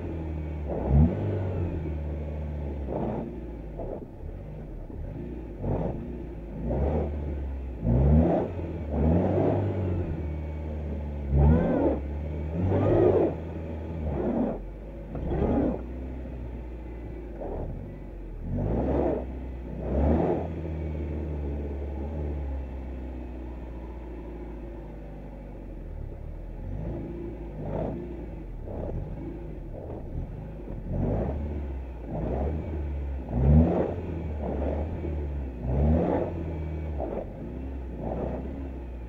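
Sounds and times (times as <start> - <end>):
car engine revving: 0.0 - 24.7, 25.8 - 39.0.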